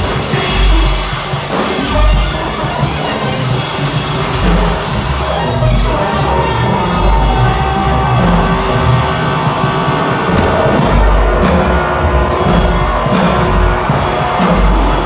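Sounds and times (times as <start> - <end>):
electronic noise music: 0.0 - 15.0
heavy low bass pulses: 0.0 - 15.0.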